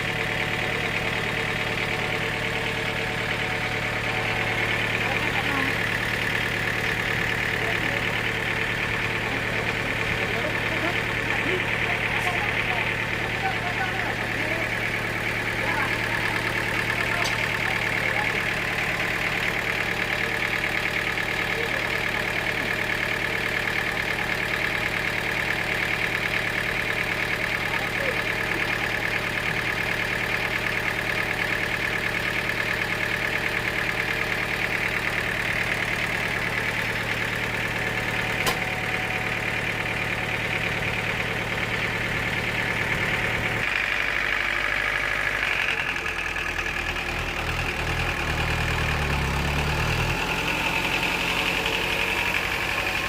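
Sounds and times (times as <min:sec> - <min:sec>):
sawmill machinery hum: 0:00.0 - 0:53.0.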